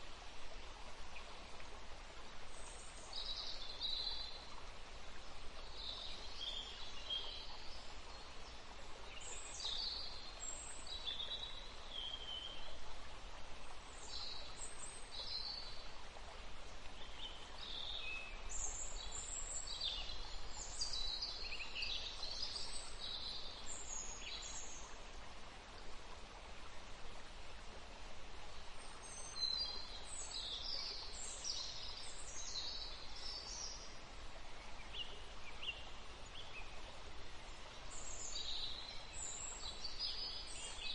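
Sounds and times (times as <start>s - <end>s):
outdoor background hiss: 0.0s - 40.9s.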